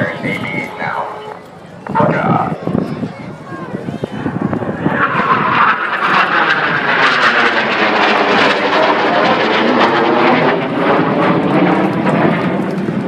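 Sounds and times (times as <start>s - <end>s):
airplane low pass: 0.0s - 13.0s.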